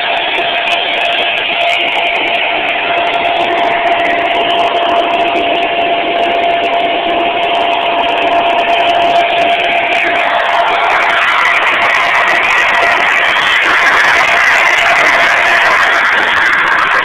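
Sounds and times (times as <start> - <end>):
jet engine roaring: 0.0 - 17.0.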